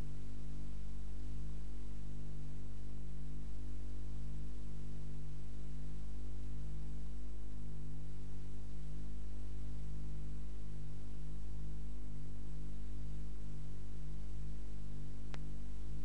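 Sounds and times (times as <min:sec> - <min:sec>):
low electrical hum: 0:00.0 - 0:16.0
recording hiss: 0:00.0 - 0:16.0.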